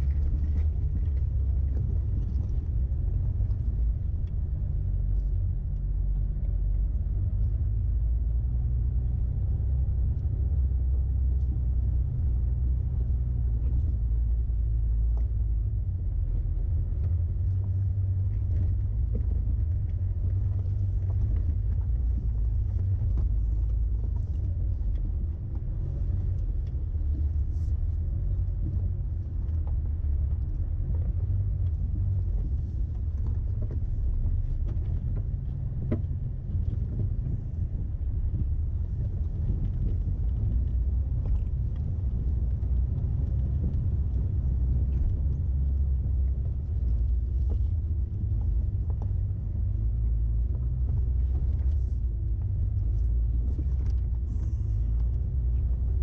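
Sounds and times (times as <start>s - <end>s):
light knocks and rattles: 0.0s - 56.0s
vehicle engine rumble: 0.0s - 56.0s.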